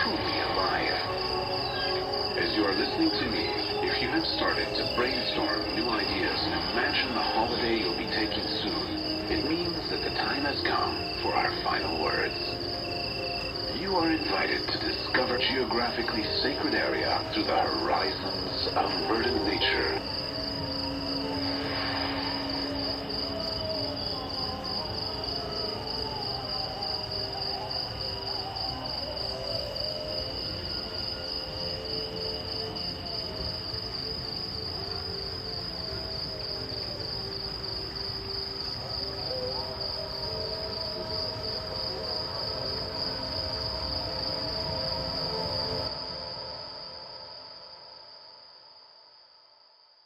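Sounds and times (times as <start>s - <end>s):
insects chirping in high trill: 0.0s - 50.0s.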